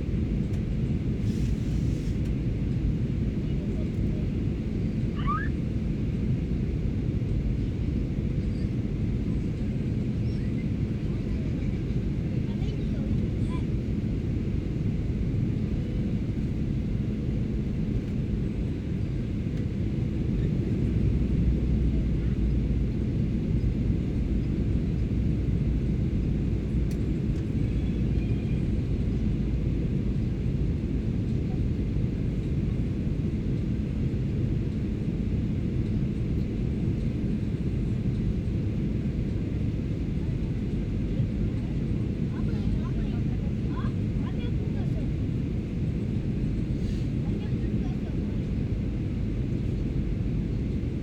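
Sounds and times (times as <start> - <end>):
airplane cabin drone: 0.0 - 51.0.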